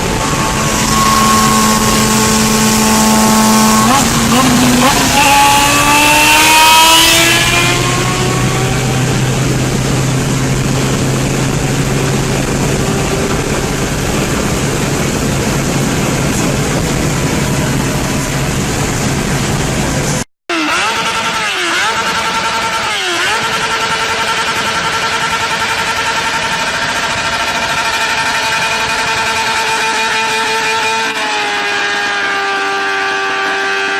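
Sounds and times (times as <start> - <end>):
engine running steadily: 0.0 - 33.9
motorcycle engine accelerating: 0.0 - 33.9.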